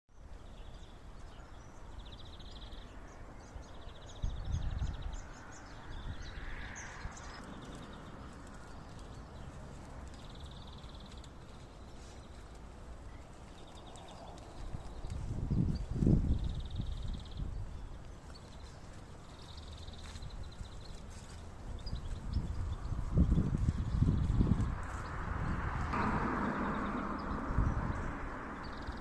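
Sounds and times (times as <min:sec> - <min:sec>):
birds chirping: 0:00.1 - 0:29.0
wind rumble on microphone: 0:00.2 - 0:29.0.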